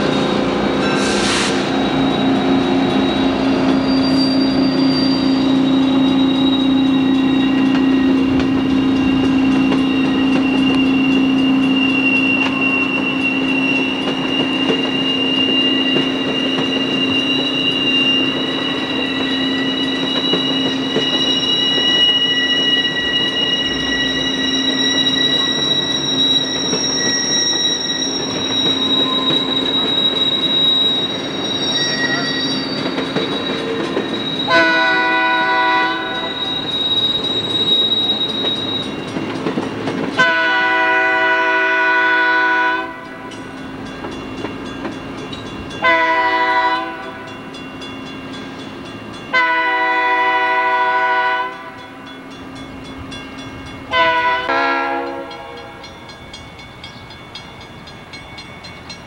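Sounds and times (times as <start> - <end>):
diesel locomotive engine drone: 0.0 - 59.0
train rolling past: 0.0 - 59.0
train wheels squealing: 0.0 - 59.0.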